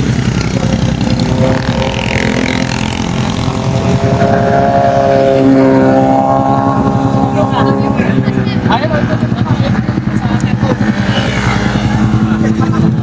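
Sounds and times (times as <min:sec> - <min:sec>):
motorcycle engine idling: 0:00.0 - 0:05.5, 0:06.1 - 0:13.0.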